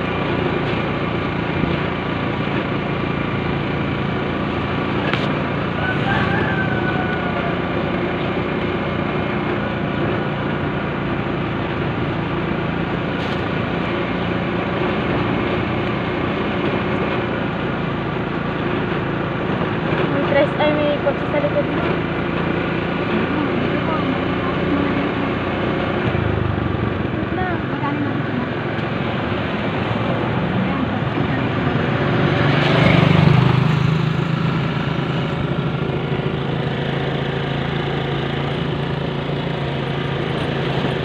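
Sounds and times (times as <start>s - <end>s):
road and wind noise: 0.0s - 41.0s
vehicle engine running: 0.0s - 41.0s.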